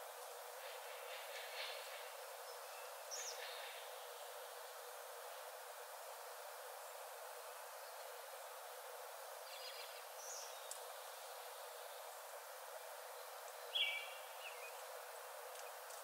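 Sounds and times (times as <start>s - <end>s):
forest background hiss: 0.0s - 16.0s.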